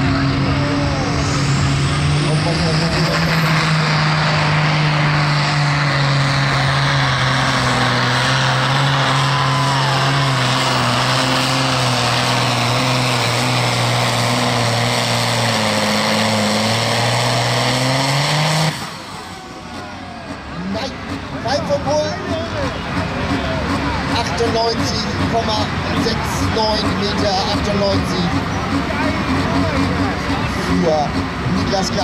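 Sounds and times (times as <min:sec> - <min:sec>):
diesel tractor engine running flat out: 0:00.0 - 0:32.0.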